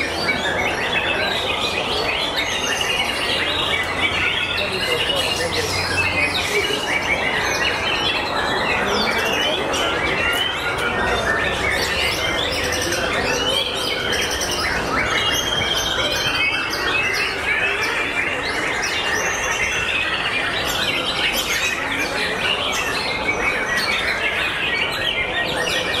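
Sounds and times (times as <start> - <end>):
other birds singing: 0.0 - 26.0.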